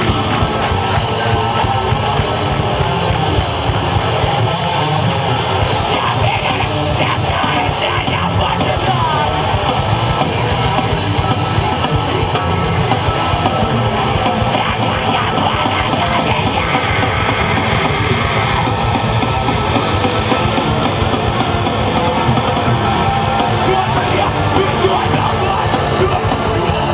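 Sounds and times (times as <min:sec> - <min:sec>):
heavy rock music: 0:00.0 - 0:26.9.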